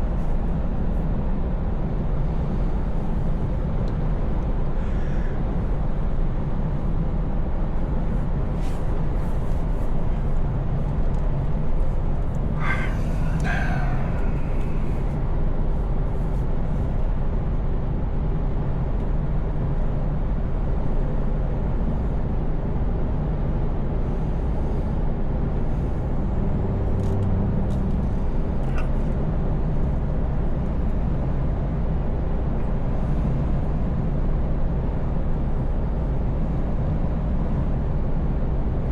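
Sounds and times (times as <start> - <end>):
road rumble: 0.0 - 38.9.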